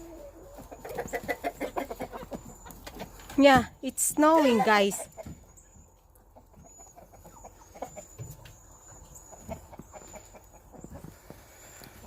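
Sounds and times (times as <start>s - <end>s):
chickens clucking softly: 0.0s - 3.4s, 4.4s - 12.0s.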